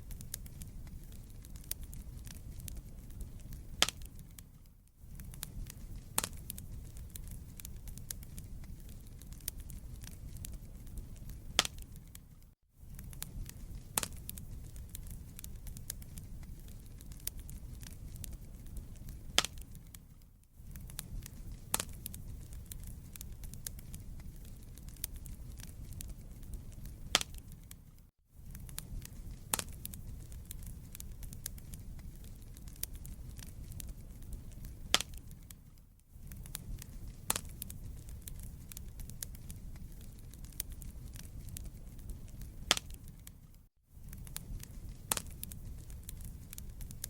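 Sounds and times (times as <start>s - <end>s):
wood fire crackling: 0.0s - 47.0s
logs popping: 0.1s - 4.5s, 5.1s - 20.0s, 20.7s - 47.0s.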